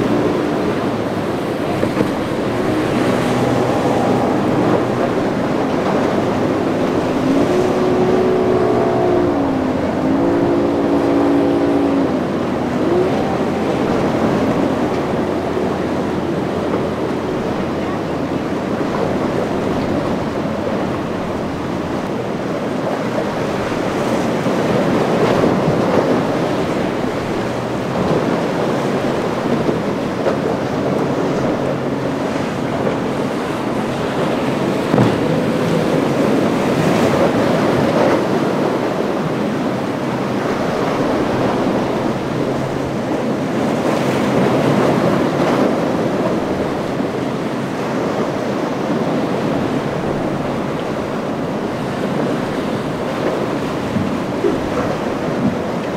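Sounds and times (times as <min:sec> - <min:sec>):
surf waves crashing: 0:00.0 - 0:55.9
wind buffeting microphone: 0:00.0 - 0:55.9.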